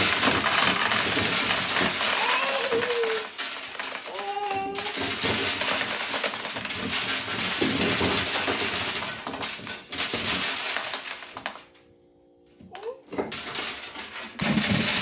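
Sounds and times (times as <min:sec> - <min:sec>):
hand-cranked corn sheller clattering: 0:00.0 - 0:11.6, 0:13.2 - 0:15.0
kernels rattling into wooden box: 0:00.0 - 0:11.7, 0:13.1 - 0:15.0.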